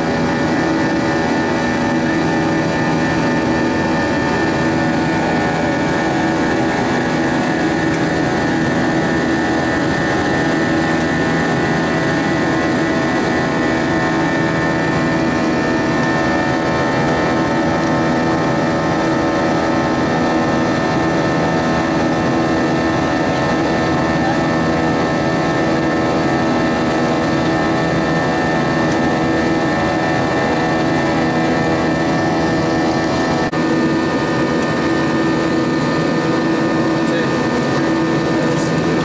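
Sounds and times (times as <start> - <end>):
airplane cabin engine hum: 0.0 - 39.0.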